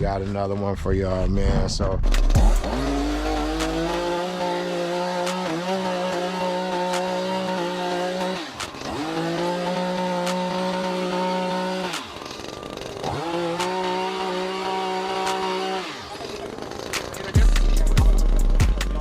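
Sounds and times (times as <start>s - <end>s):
chainsaw engine revving: 2.1s - 19.0s.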